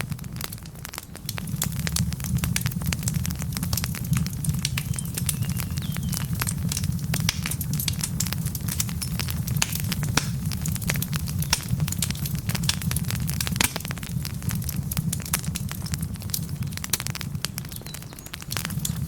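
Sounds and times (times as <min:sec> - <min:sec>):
fire flames rumbling: 0:00.0 - 0:19.0
logs crackling and popping: 0:00.0 - 0:19.0.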